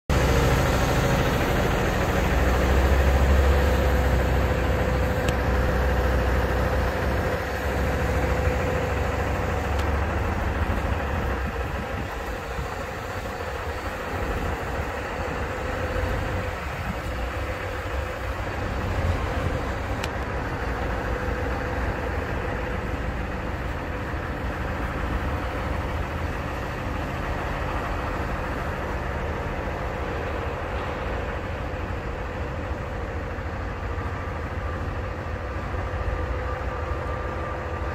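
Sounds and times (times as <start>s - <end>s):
constant hum: 0.1s - 37.9s
truck engine idling: 0.1s - 37.9s.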